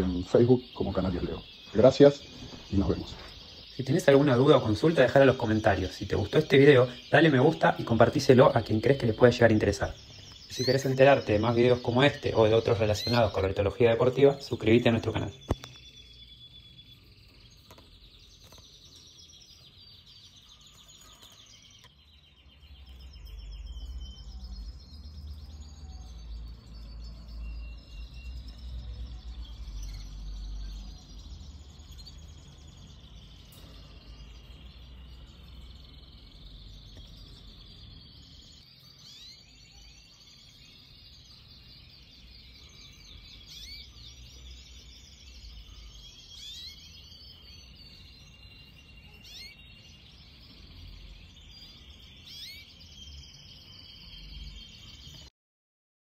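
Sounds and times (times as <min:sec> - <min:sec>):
canaries chirping: 0:00.0 - 0:55.3.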